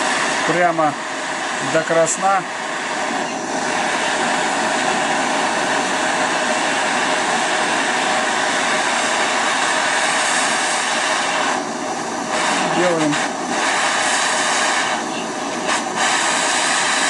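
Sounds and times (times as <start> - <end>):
torch burning with rushing hiss: 0.0 - 17.0.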